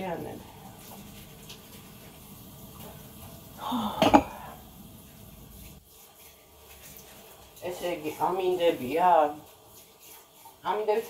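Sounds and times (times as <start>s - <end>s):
low kitchen room noise: 0.0s - 11.0s.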